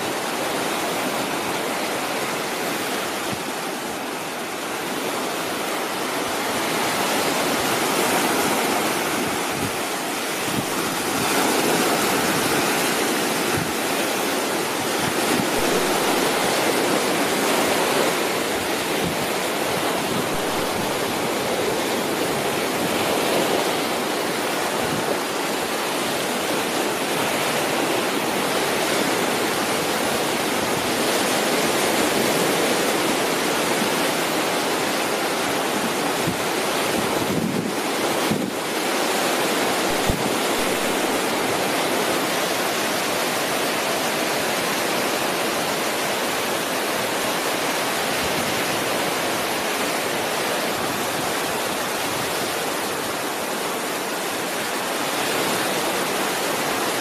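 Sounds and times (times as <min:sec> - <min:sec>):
small surf breaking on beach: 0:00.0 - 0:57.0.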